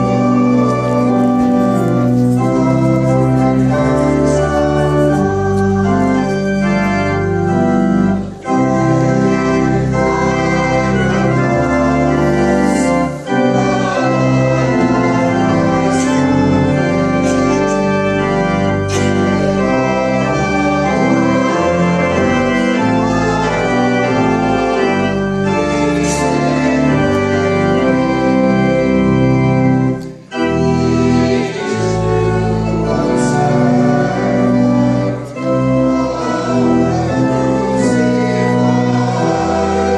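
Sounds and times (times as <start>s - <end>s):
church organ playing hymn: 0.0s - 39.9s.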